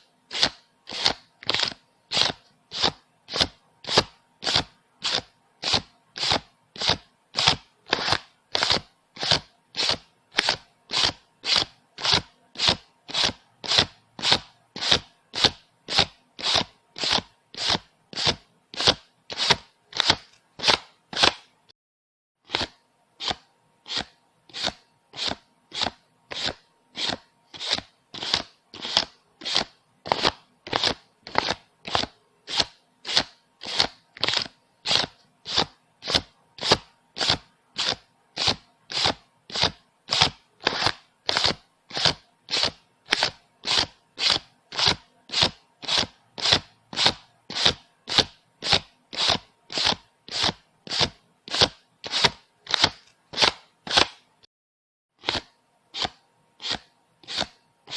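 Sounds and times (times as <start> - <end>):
banknotes being counted by hand: 0.3 - 21.6, 22.4 - 54.3, 55.2 - 57.9.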